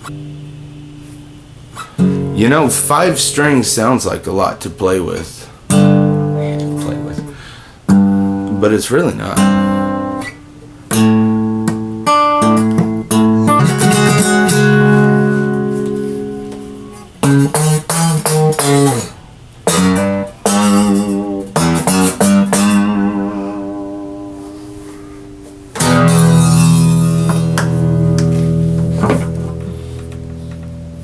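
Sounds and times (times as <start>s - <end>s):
guitar chords and notes: 0.0s - 31.0s.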